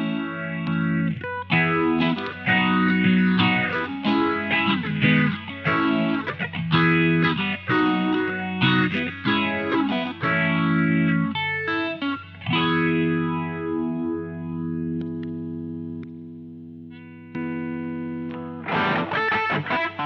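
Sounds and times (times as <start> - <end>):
electric guitar strumming chords: 0.0 - 20.0.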